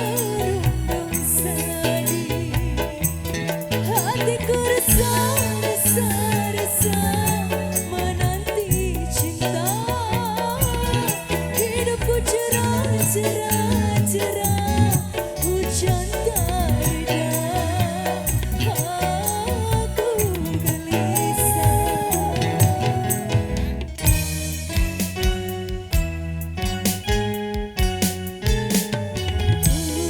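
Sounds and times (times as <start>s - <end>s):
wavering vocal melody: 0.0s - 24.6s, 29.7s - 30.0s
busy percussion: 0.0s - 30.0s
steady bass notes: 0.0s - 30.0s.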